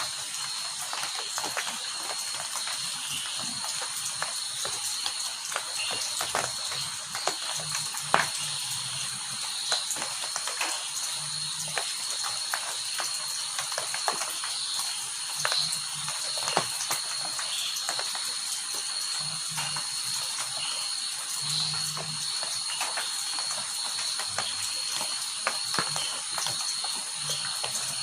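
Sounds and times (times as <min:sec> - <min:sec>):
rain falling: 0:00.0 - 0:28.0
sharp drips and taps: 0:00.0 - 0:28.0.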